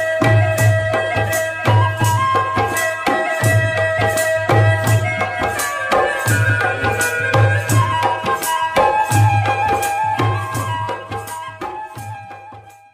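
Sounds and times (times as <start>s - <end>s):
held melody line: 0.0s - 12.9s.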